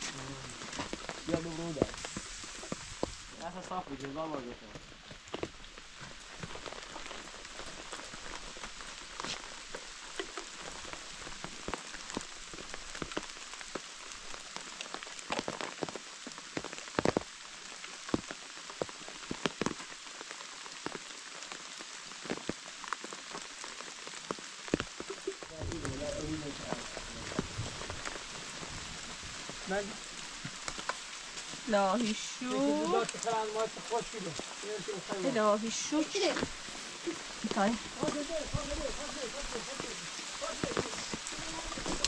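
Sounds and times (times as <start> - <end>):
raindrops tapping close by: 0.0 - 42.0
steady rain: 0.0 - 42.0.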